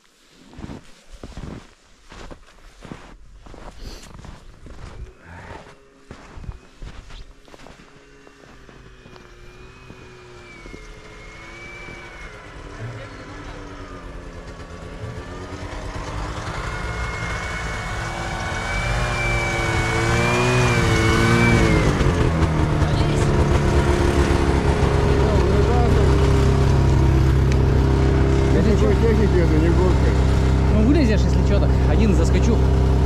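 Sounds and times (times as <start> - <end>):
snowmobile engine revving: 4.2 - 33.0.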